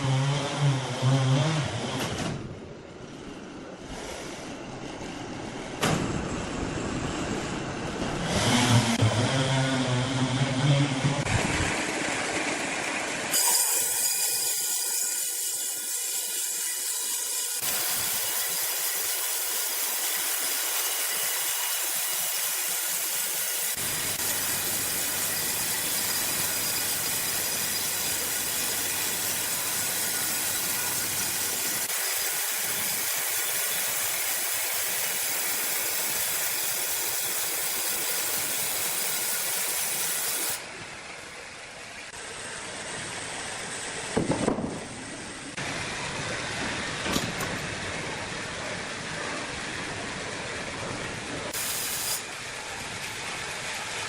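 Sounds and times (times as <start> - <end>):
sawmill machinery hissing: 7.2 - 54.0.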